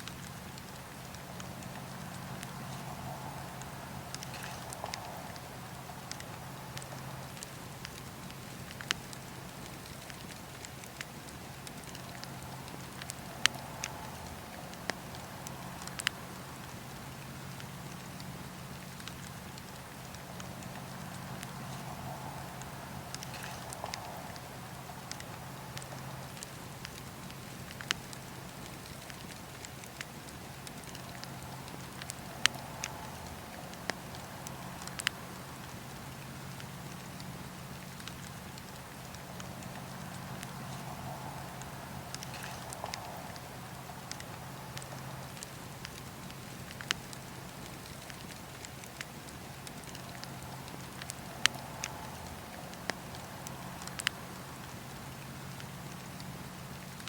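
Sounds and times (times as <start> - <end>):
campfire flames rushing: 0.0 - 57.0
fire crackles and pops: 0.0 - 57.0
steady low hiss and hum: 0.0 - 57.0.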